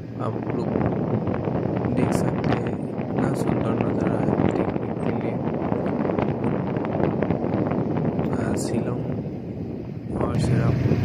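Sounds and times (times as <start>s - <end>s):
vehicle running noise: 0.0s - 11.0s
wind buffeting microphone: 0.0s - 11.0s.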